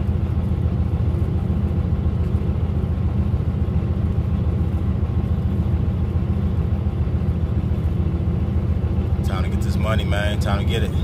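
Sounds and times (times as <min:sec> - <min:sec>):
heavy diesel engines running: 0:00.0 - 0:11.0.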